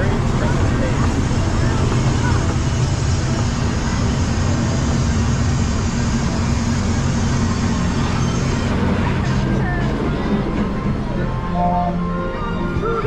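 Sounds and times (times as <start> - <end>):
machinery low rumble and hum: 0.0 - 13.0.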